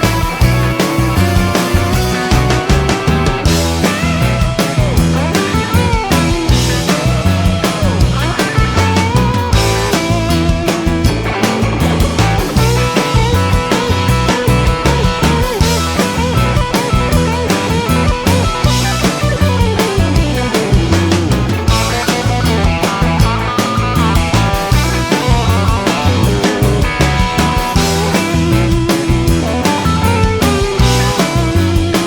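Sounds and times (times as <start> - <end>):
drum kit beat: 0.0 - 32.0
rock music with electric guitar: 0.0 - 32.0.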